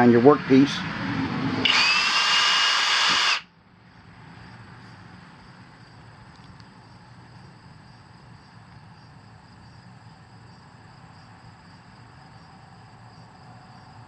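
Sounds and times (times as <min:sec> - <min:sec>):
low hum and hiss: 0:00.0 - 0:14.0
cricket chirping: 0:01.7 - 0:14.0.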